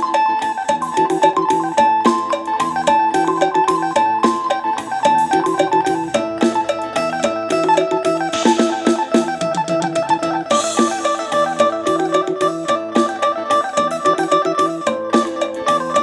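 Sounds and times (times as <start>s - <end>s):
plucked lute melody with drone: 0.0s - 16.0s.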